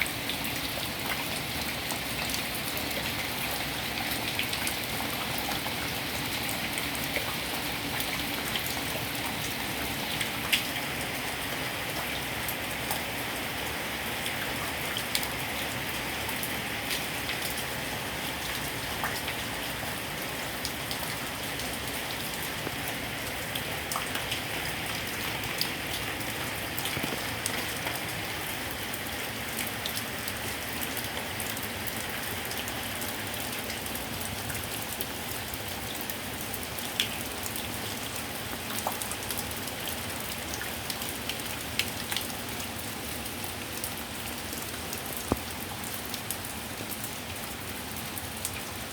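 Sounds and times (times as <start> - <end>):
heavy rain pouring: 0.0 - 48.9
raindrops tapping on surfaces: 0.2 - 13.1, 20.6 - 32.9, 33.8 - 48.8.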